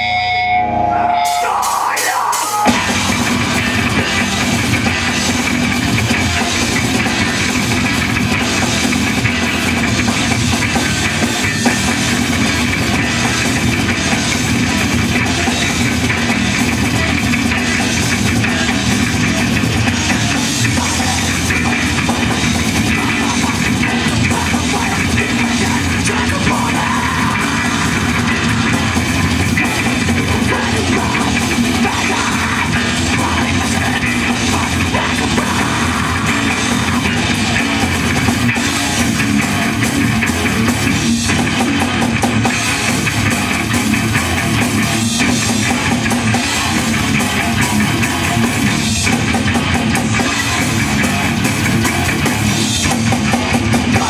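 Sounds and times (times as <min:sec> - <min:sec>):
death metal band playing: 0:00.0 - 0:54.0.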